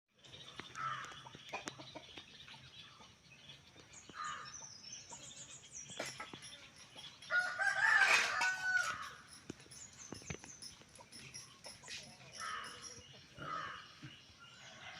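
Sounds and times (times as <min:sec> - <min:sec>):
chickens clucking: 0:00.2 - 0:14.9.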